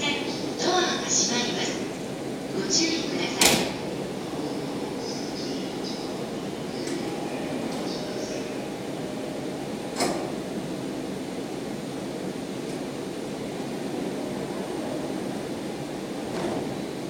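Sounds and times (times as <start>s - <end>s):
train equipment and fans humming: 0.0s - 17.0s.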